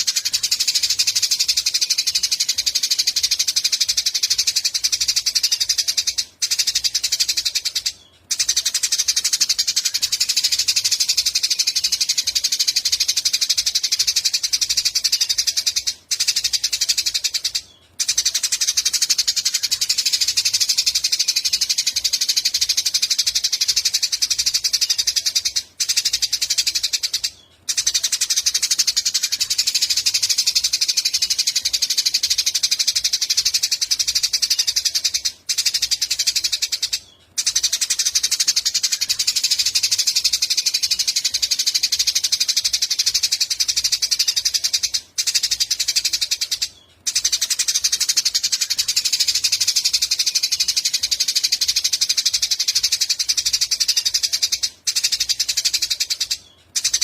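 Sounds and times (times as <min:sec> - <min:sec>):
songbird buzzy trill: 0:00.0 - 0:57.0.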